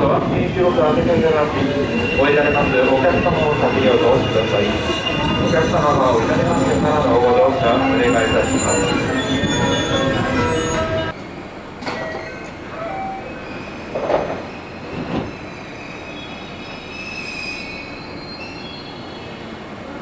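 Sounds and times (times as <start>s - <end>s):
train wheels squealing: 0.5s - 11.1s, 11.9s - 19.5s.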